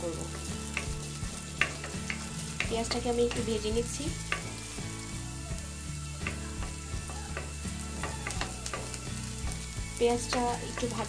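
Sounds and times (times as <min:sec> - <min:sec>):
onion sizzling in a wok: 0:00.0 - 0:11.0
spatula scraping and tapping pan: 0:00.3 - 0:04.8, 0:06.1 - 0:11.0.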